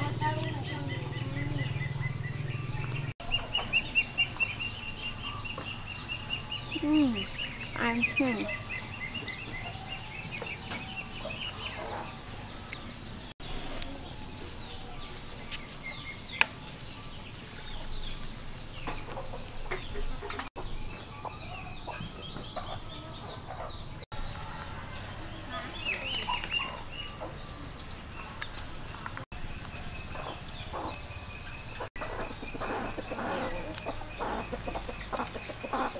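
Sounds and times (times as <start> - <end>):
chickens clucking: 0.0 - 24.6, 25.4 - 35.9.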